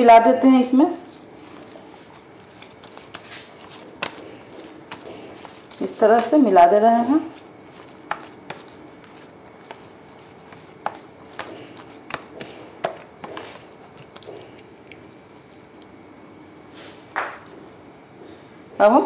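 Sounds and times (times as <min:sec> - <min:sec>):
hands kneading and squishing cheese: 0:00.0 - 0:17.8.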